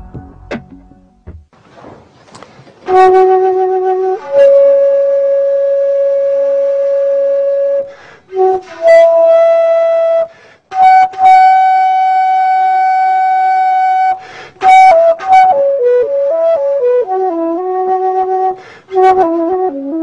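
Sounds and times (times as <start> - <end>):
wooden flute playing slowly: 2.8 - 20.0.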